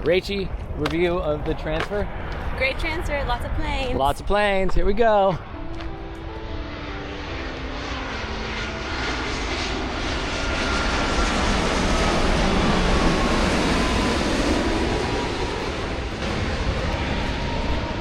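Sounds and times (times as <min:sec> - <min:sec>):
jet airliner passing overhead: 0:00.0 - 0:18.0
jet engine whine falling: 0:00.0 - 0:18.0.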